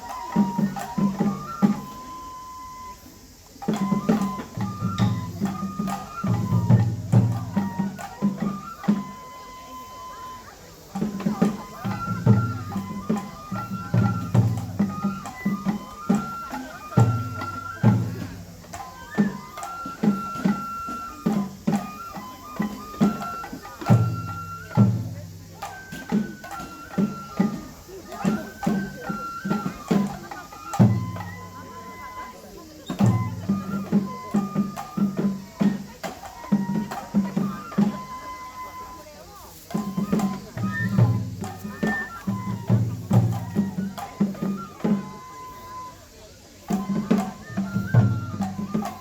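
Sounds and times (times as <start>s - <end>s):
taiko drum strokes: 0.0s - 46.0s, 46.6s - 49.0s
bamboo flute melody: 0.0s - 49.0s.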